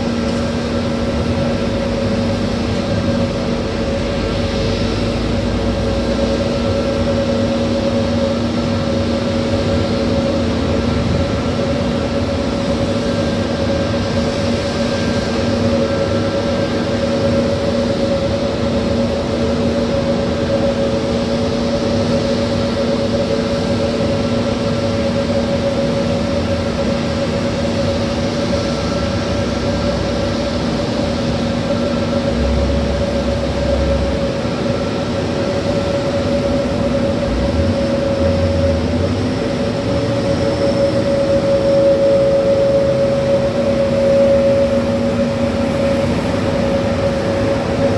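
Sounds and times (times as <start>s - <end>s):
jet engines idling: 0.0s - 47.9s.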